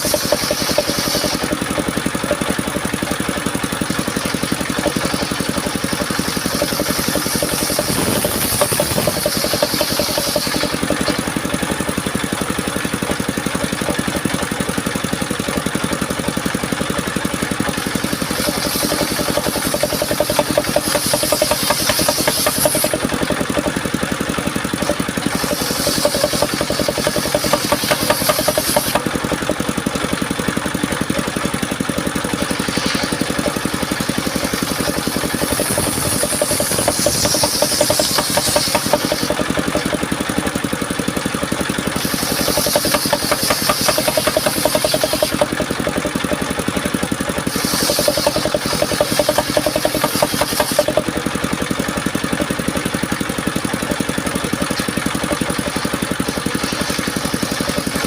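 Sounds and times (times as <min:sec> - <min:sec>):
saw blade cutting wood: 0:00.0 - 0:58.0
sawmill engine running: 0:00.0 - 0:58.0.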